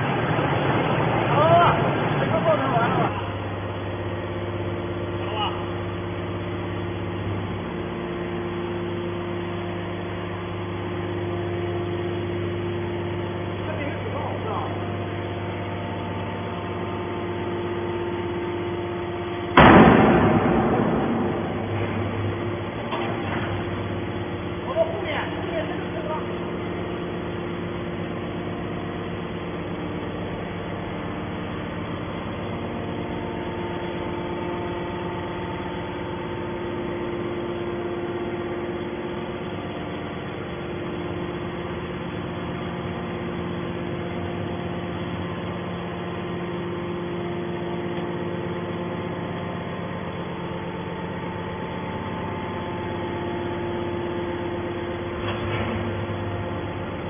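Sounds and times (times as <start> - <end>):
hydraulic baler motor humming: 0.0 - 57.0.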